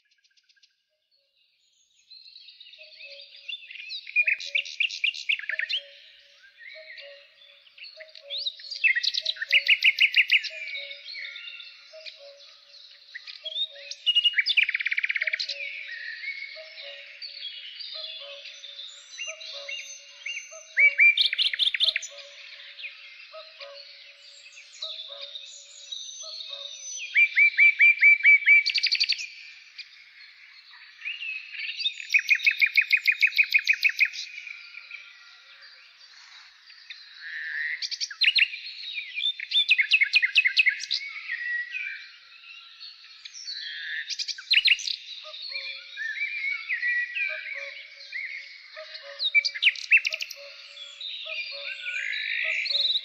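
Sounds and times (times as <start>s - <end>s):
quiet bird twittering: 0.0s - 53.0s
songbird trilling: 2.6s - 42.0s, 43.2s - 53.0s.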